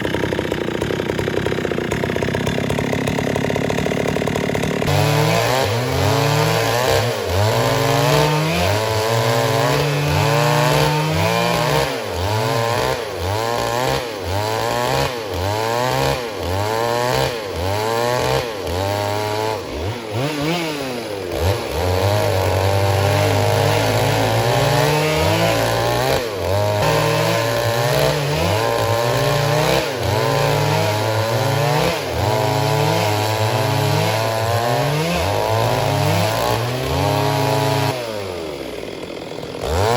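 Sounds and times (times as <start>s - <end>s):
two-stroke chainsaw running hard: 0.0s - 39.9s.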